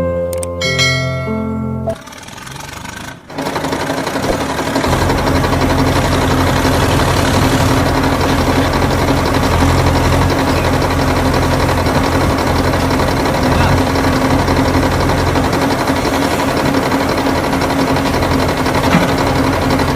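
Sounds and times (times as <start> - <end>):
small motor humming: 1.9 - 19.9.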